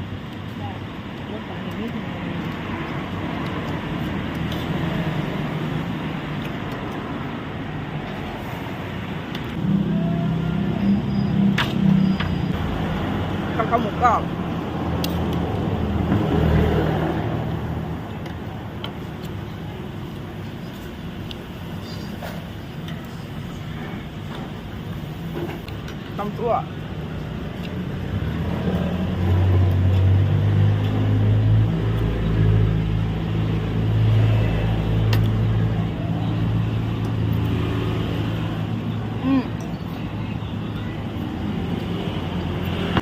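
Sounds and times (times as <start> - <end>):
passing motor vehicle rumble: 1.2 - 43.0.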